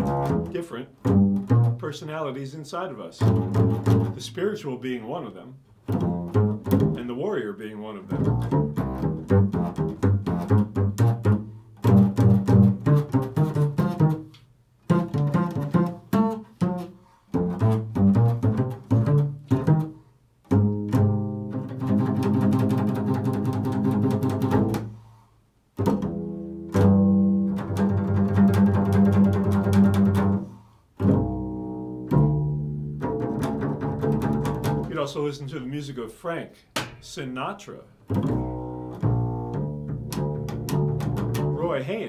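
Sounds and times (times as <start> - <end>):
double bass plucked pizzicato: 0.0 - 2.0, 3.2 - 4.3, 5.8 - 7.2, 7.9 - 25.0, 25.8 - 35.0, 38.1 - 41.9.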